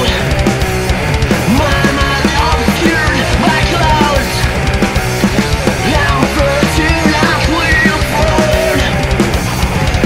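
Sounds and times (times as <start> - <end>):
rock band playing: 0.0 - 10.0
sliding lead guitar line: 0.0 - 10.0.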